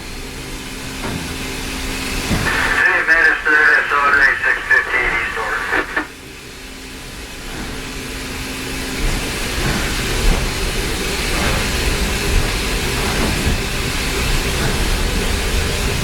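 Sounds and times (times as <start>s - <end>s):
steam locomotive rumble and hiss: 0.0s - 16.0s.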